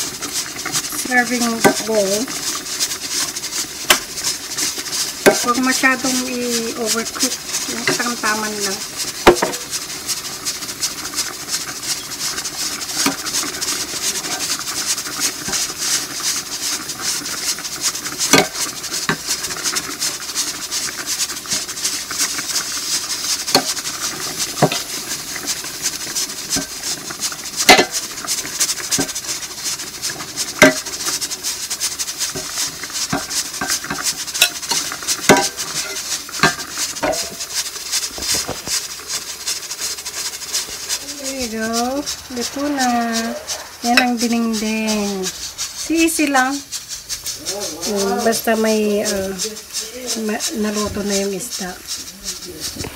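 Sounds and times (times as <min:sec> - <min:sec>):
broth boiling in a pot: 0:00.0 - 0:52.9.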